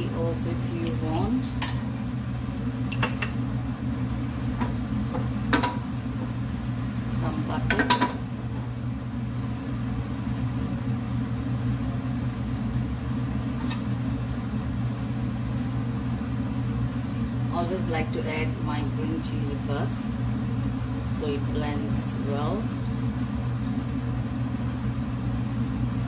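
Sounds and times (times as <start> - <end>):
faint sizzle: 0.0 - 26.0
steady low hum: 0.0 - 26.0.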